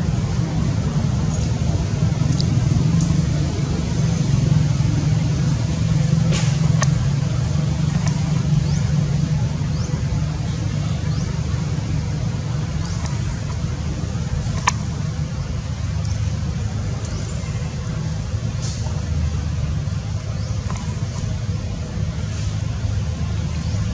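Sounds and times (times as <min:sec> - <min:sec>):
low outdoor rumble: 0:00.0 - 0:23.9.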